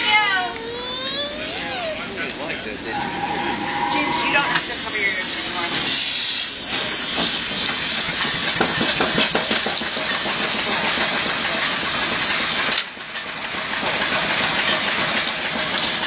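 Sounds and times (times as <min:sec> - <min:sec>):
steam machinery hissing: 0:02.6 - 0:16.0.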